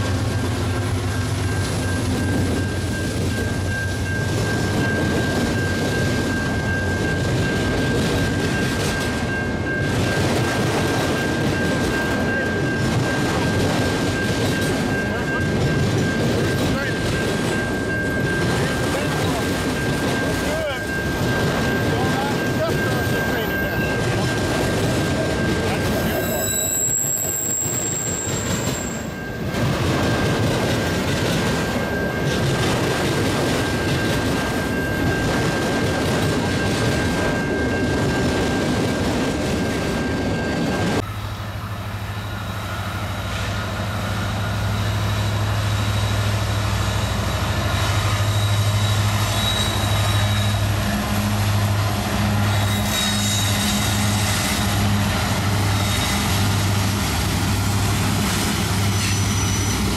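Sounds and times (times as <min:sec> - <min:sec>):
freight cars rumbling and clattering: 0:00.0 - 0:26.6, 0:27.3 - 0:41.1, 0:44.4 - 0:59.9
diesel locomotives humming: 0:00.0 - 0:59.9.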